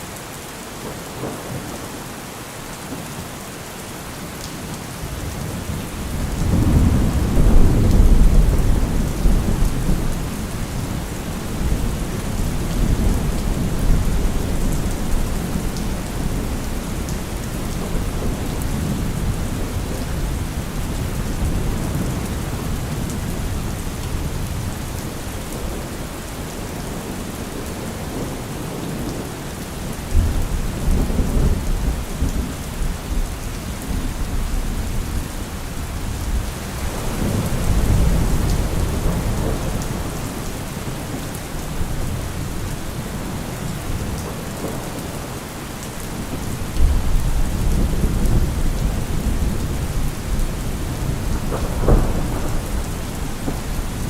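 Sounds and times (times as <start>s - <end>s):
steady rain: 0.0s - 54.0s
thunder rumbling: 5.1s - 25.9s, 29.8s - 45.4s, 46.0s - 54.0s.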